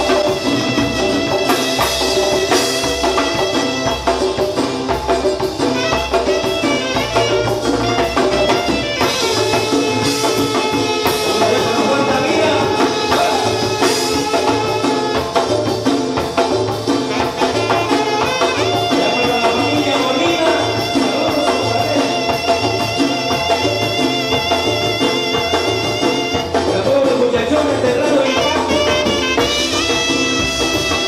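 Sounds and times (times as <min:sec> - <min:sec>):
saxophone melody: 0:00.0 - 0:15.9, 0:17.0 - 0:26.8, 0:28.0 - 0:31.0
bass beat: 0:00.0 - 0:31.0
drums and congas: 0:00.0 - 0:31.0.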